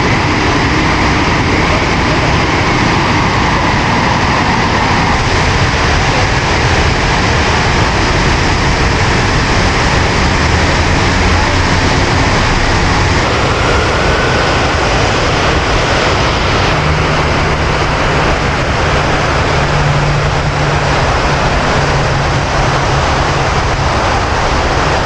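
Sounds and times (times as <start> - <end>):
low hum: 0.0 - 25.0
waterfall rushing: 0.0 - 25.0.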